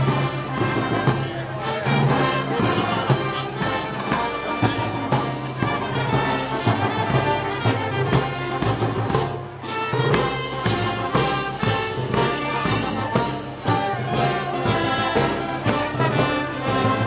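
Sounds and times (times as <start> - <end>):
brass band playing march: 0.0 - 17.0.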